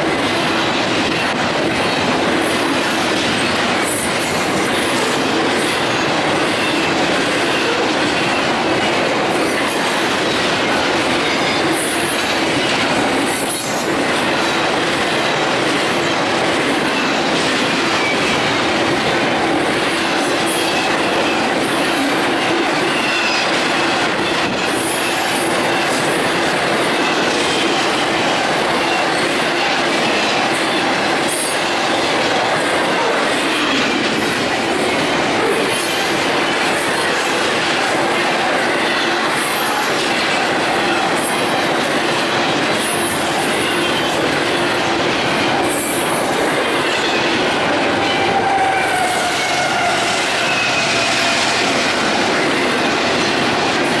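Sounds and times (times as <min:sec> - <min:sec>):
container train rumbling and rattling: 0:00.0 - 0:54.0.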